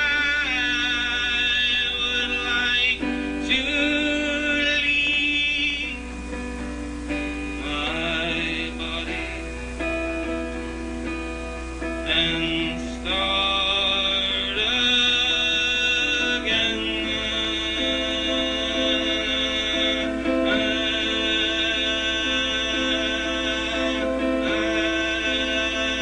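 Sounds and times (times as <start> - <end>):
man singing: 0.0 - 11.0, 11.7 - 26.0
strummed acoustic guitar: 0.0 - 26.0.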